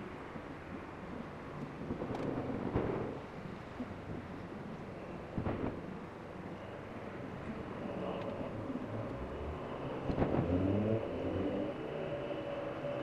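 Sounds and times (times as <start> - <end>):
engine and traffic rumble: 0.0 - 13.0.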